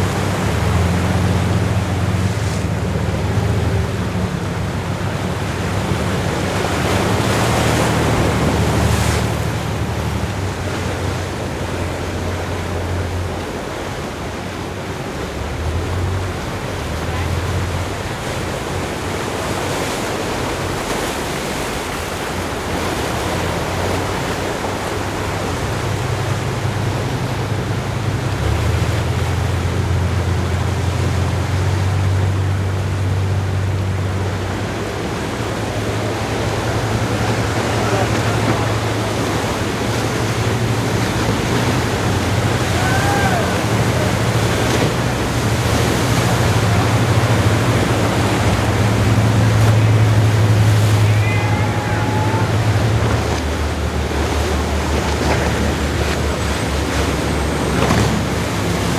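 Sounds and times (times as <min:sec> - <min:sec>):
boat engine hum: 0:00.0 - 0:58.9
water noise: 0:00.0 - 0:58.9
wind: 0:00.0 - 0:58.9.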